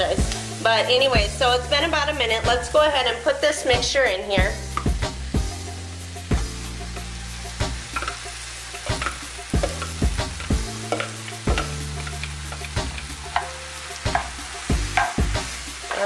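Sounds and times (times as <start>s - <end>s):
food sizzling in saucepan: 0.0s - 16.0s.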